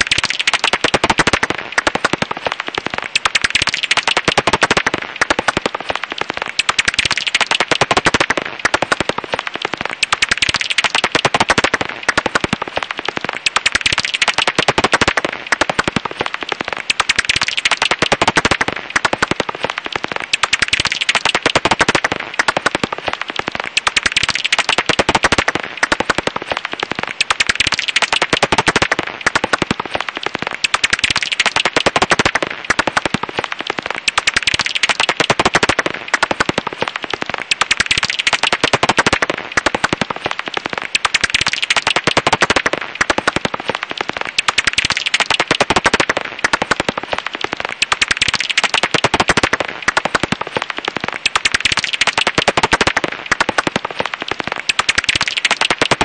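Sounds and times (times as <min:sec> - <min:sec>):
bat echolocation clicks: 0:00.0 - 0:56.0.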